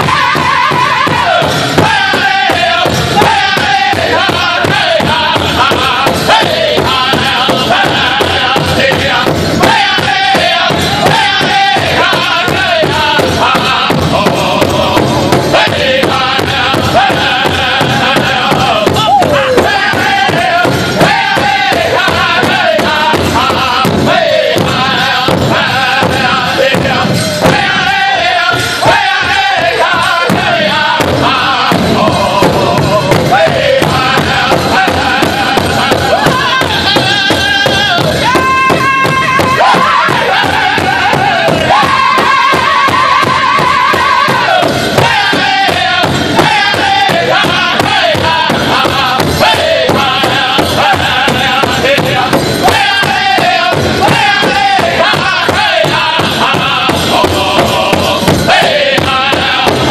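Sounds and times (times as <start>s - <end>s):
large hand drum beat: 0.0s - 59.9s
men singing together: 0.0s - 59.9s.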